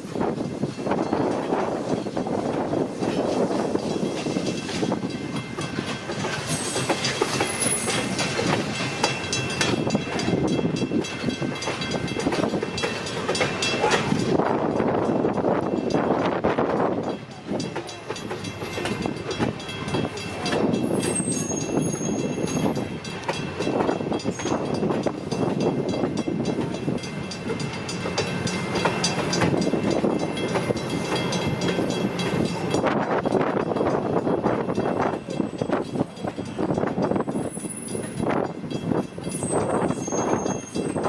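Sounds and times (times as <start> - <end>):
passenger train passing on rails: 0.0 - 41.0.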